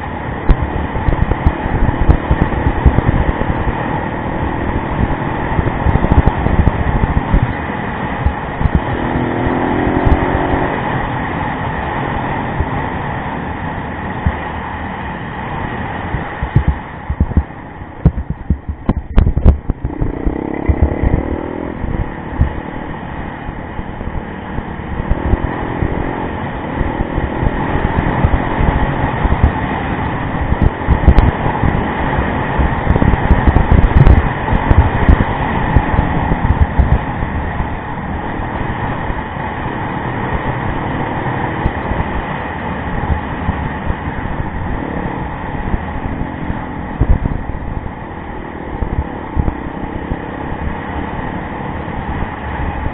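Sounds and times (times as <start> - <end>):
motorcycle engine revving: 0.0 - 13.0, 15.7 - 52.9
low thumps and buffeting: 0.0 - 52.9.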